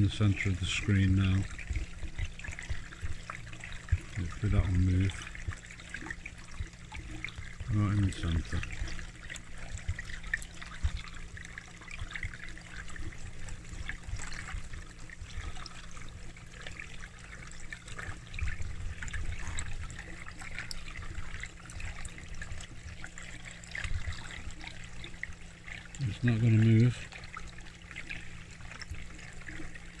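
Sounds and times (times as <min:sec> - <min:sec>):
low steady hum: 0:00.0 - 0:30.0
pond water trickling and splashing: 0:00.0 - 0:30.0.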